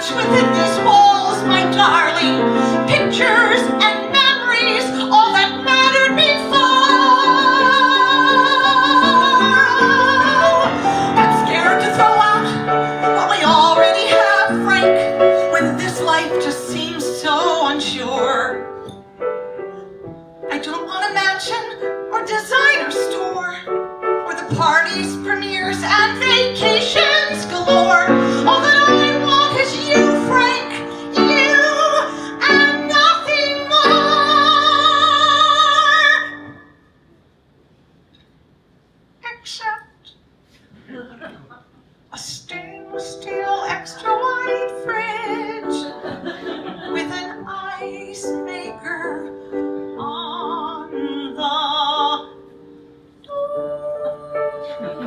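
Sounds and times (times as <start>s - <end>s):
woman singing: 0.0s - 18.8s, 20.5s - 36.7s, 42.1s - 46.2s, 46.8s - 52.5s, 53.3s - 55.0s
piano accompaniment: 0.0s - 36.8s, 42.4s - 55.0s.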